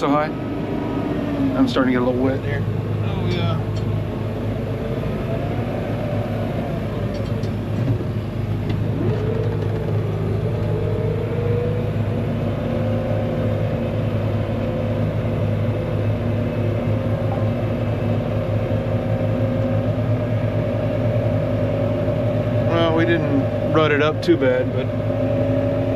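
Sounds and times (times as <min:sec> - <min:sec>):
high whine: 0:00.0 - 0:25.9
low engine drone: 0:00.0 - 0:25.9.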